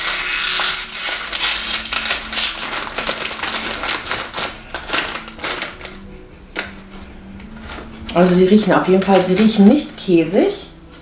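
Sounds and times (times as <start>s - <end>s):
plastic bag ripping: 0.0s - 6.9s, 7.6s - 10.0s
plastic bag crinkling: 0.0s - 10.3s.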